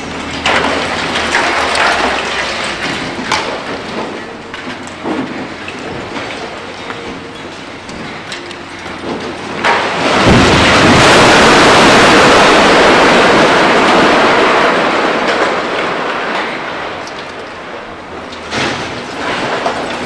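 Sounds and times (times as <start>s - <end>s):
heavy crash and rumble of debris: 0.0s - 20.0s
rubble clattering: 0.0s - 20.0s.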